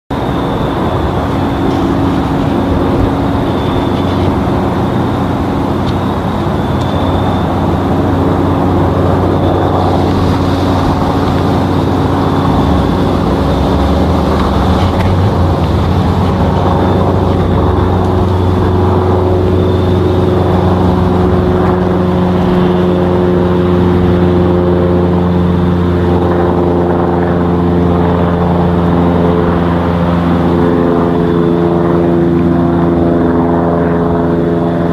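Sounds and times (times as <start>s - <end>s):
propeller plane droning overhead: 0.1s - 34.9s.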